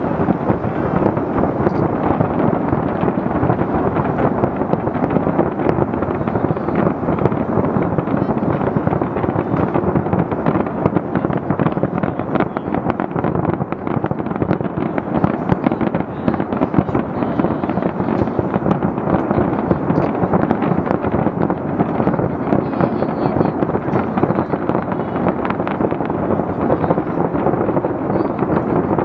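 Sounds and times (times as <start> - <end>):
fireworks bangs and crackle: 0.0 - 29.0.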